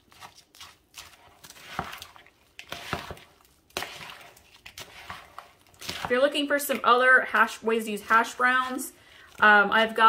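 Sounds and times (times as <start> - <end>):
spatula scraping in metal bowl: 0.1 - 9.5.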